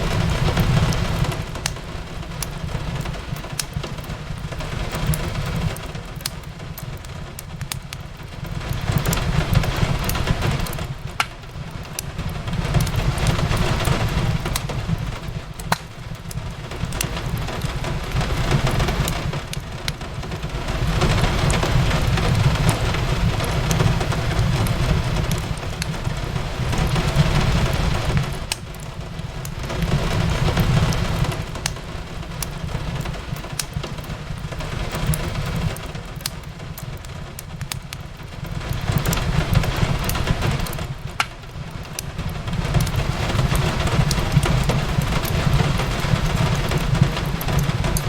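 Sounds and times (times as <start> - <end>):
steady rain: 0.0 - 48.0
wood fire crackling: 0.0 - 48.0.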